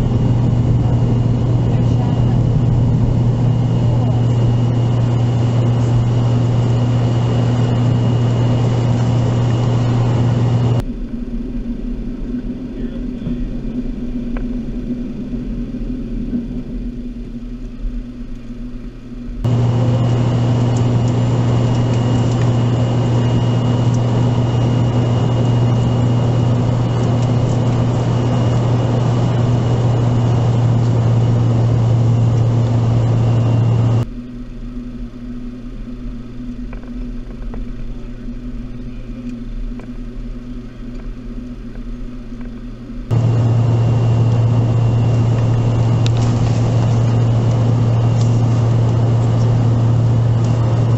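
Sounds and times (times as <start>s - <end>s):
high turbofan whine: 0.0s - 50.9s
jet engine drone: 0.0s - 50.9s.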